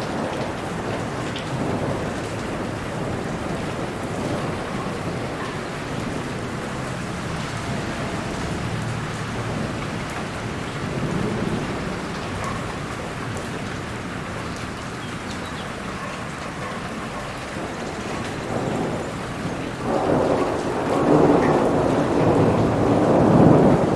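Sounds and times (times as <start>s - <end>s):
distant thunder rumble: 0.0s - 13.9s, 16.9s - 23.9s
rain falling: 0.0s - 23.9s.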